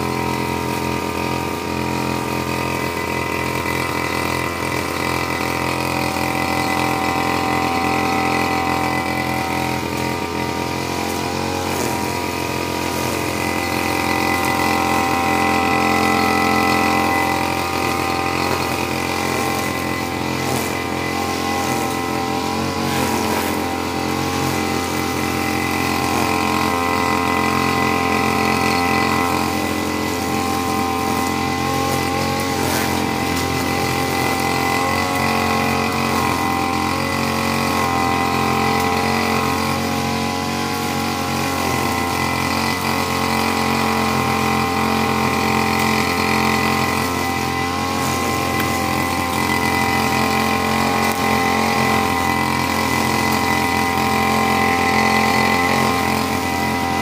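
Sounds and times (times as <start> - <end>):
brush cutter engine cutting grass: 0.0 - 57.0.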